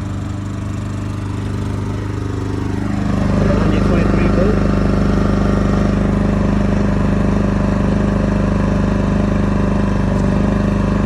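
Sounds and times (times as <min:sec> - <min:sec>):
portable generator running: 0:00.0 - 0:11.0.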